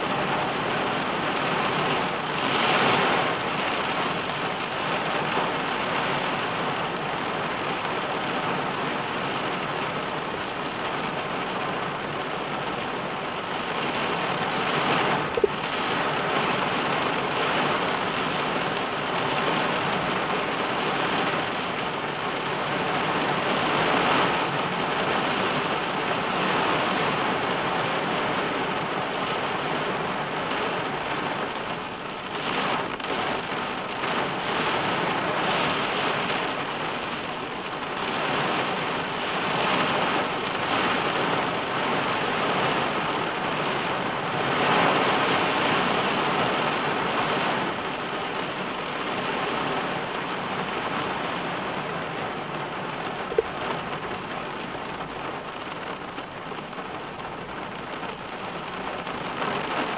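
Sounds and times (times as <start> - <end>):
heavy rain on car roof: 0.0 - 59.9.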